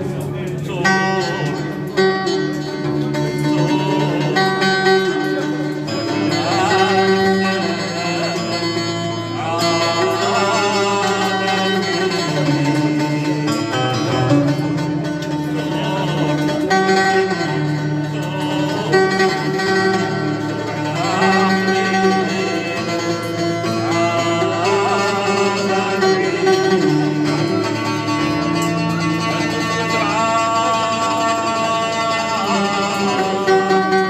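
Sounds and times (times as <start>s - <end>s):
plucked string instrument melody: 0.0s - 34.0s.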